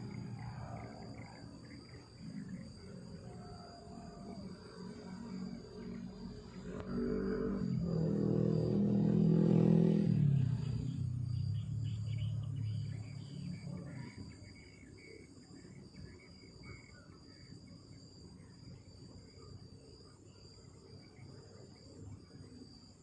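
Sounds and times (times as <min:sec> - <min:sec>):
night insects trilling: 0:00.0 - 0:23.0.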